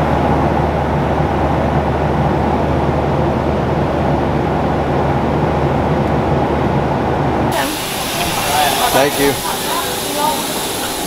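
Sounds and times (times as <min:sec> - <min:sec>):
engine hum: 0:00.0 - 0:11.0
jet cabin drone: 0:00.0 - 0:11.0.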